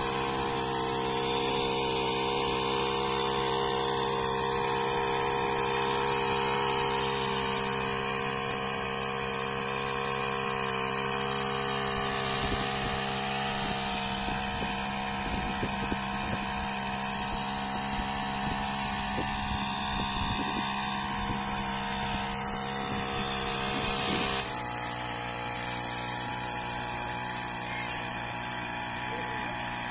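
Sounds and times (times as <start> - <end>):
petrol engine of power sprayer running: 0.0 - 29.9.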